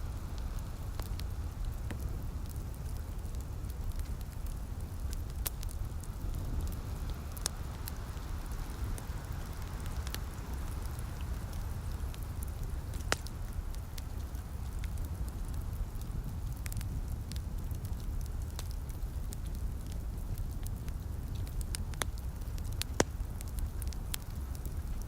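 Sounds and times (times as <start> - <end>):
light rain hissing: 0.0 - 25.0
low constant rumble: 0.0 - 25.0
wood fire crackling: 0.0 - 25.0.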